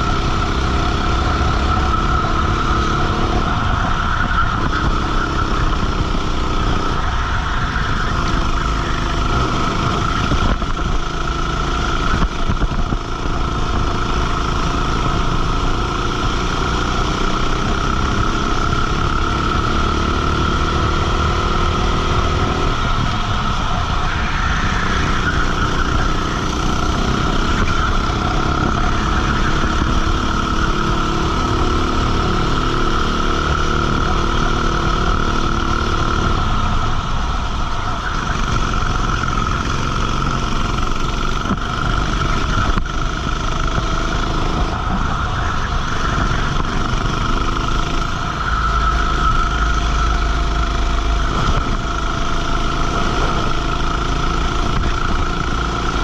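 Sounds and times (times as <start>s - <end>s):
high whine: 0.0s - 56.0s
kart engine racing: 0.0s - 56.0s.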